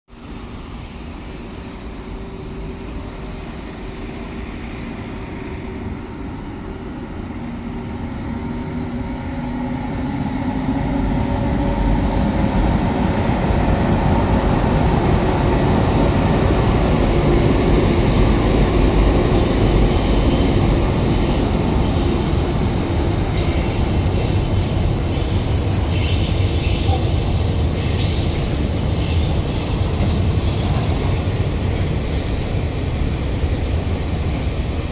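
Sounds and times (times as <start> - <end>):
train wheels rumbling on rail: 0.1 - 34.9.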